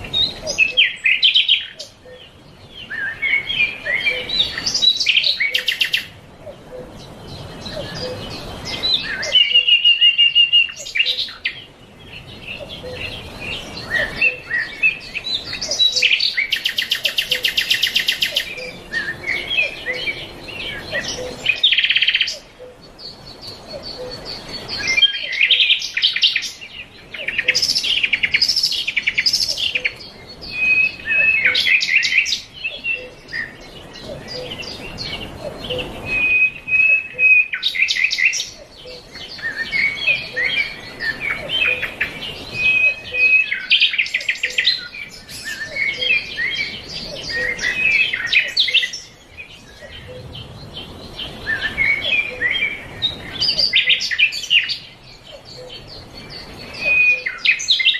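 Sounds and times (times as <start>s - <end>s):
songbirds chirping and singing: 0.0s - 57.9s.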